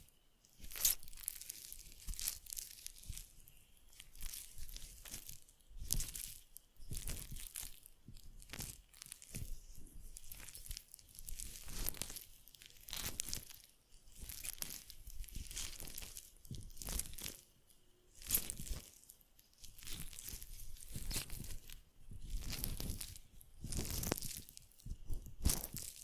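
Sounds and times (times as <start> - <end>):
crinkling against microphone: 0.0 - 26.0.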